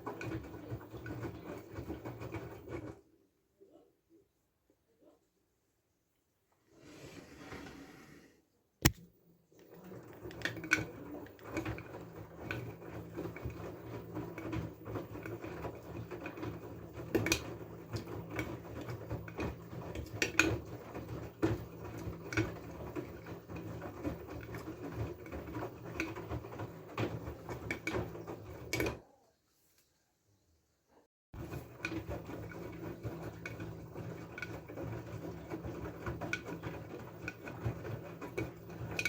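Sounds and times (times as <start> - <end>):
washing machine motor hum: 0.0 - 3.1, 6.7 - 29.1, 31.4 - 39.0.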